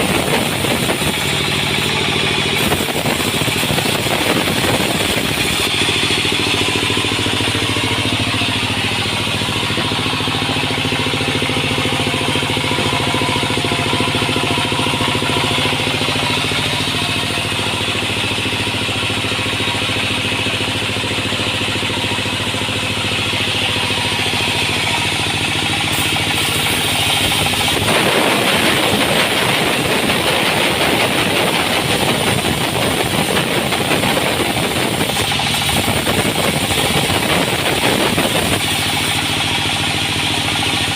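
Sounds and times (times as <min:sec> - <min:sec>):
continuous mechanical noise: 0:00.0 - 0:40.9
engine drone: 0:00.0 - 0:40.9.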